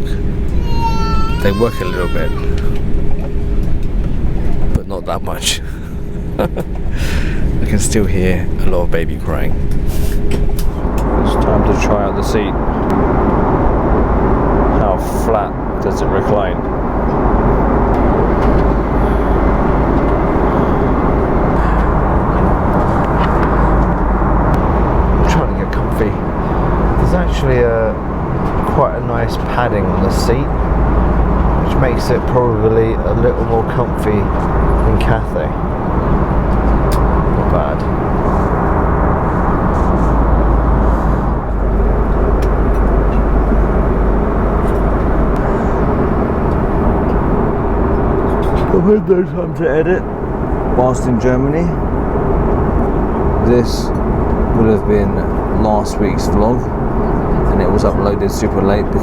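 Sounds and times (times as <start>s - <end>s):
airliner cabin engine drone: 0.0s - 59.0s
faint steady hum: 0.0s - 59.0s.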